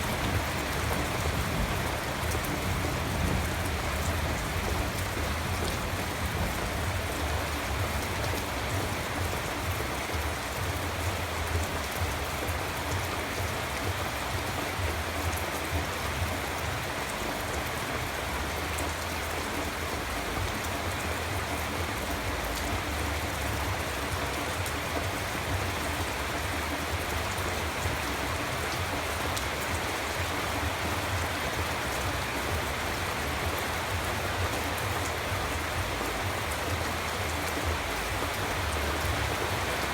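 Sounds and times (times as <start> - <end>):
raindrop patter: 0.0 - 39.9
steady rain hiss: 0.0 - 39.9.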